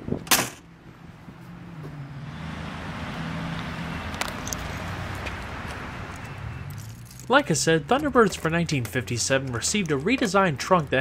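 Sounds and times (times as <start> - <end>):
low engine hum: 0.0 - 10.2
passing road traffic: 0.0 - 11.0.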